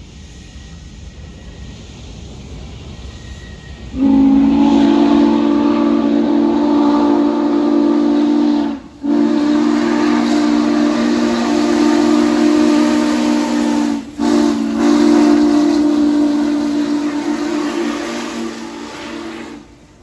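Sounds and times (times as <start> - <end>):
locomotive rumble and hiss: 0.0 - 20.0
steam locomotive whistle chord: 3.4 - 19.8.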